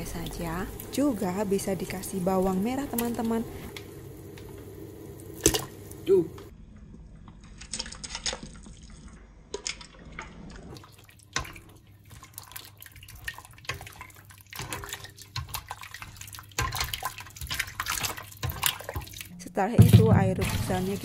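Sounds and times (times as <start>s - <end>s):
water splashing in a pot: 0.0s - 6.5s, 7.5s - 21.0s.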